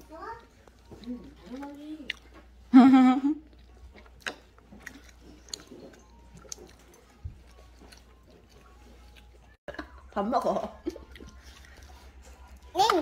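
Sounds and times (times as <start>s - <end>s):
child chewing: 0.0s - 2.7s, 3.4s - 9.9s, 10.8s - 13.0s.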